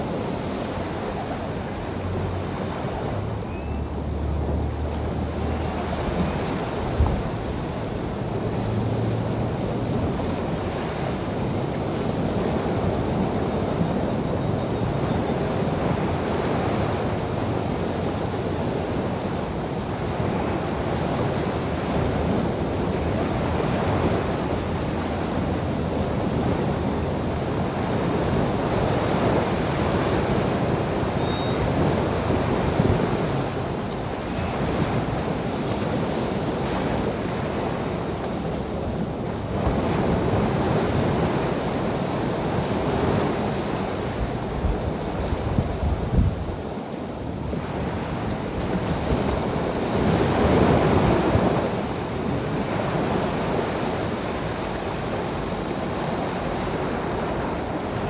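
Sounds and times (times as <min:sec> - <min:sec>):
sea waves washing onto shore: 0:00.0 - 0:58.0
wind buffeting microphone: 0:00.0 - 0:58.0.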